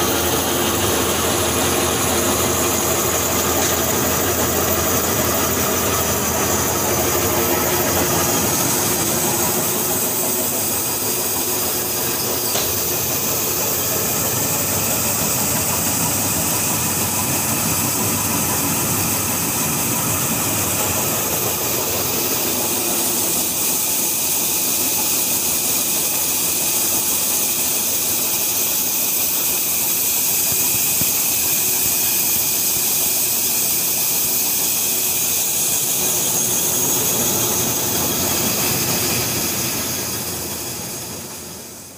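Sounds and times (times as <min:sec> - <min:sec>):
cotton-cleaning machine running: 0:00.0 - 0:41.9.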